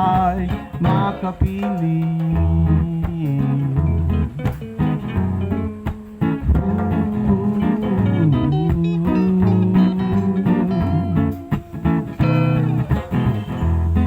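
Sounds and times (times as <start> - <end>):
guitar plucked and strummed: 0.0 - 14.0
stepping bass line: 0.0 - 14.0.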